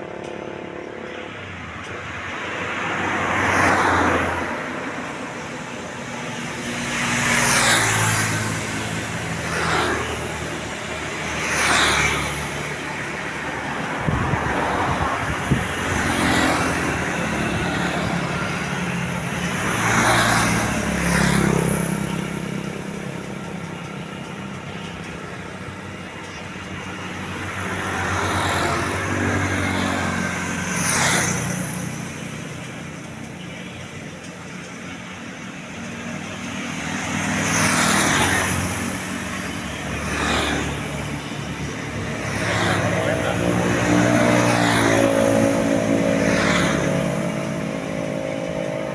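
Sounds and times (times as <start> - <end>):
vehicles passing: 0.0 - 48.9.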